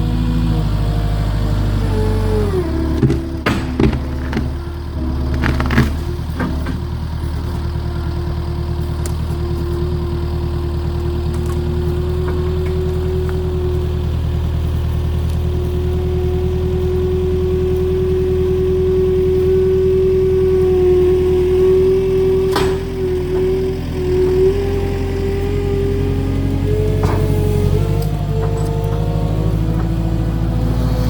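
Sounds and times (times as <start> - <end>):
engine running with whine: 0.0 - 31.0.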